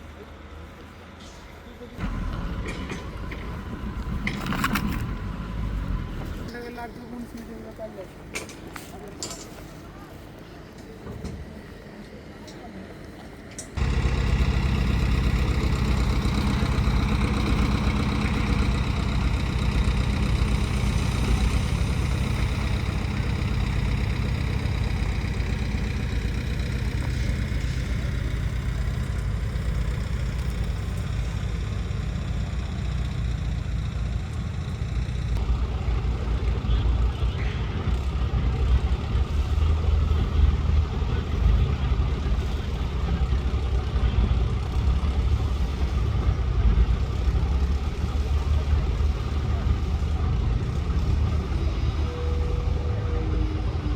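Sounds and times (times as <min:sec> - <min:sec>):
construction machinery engine: 0:00.0 - 0:53.9.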